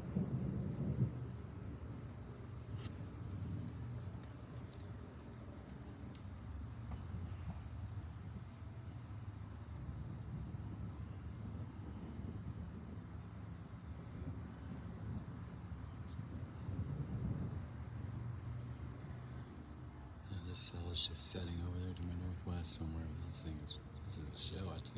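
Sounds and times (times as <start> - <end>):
crickets chirping: 0.0 - 24.9.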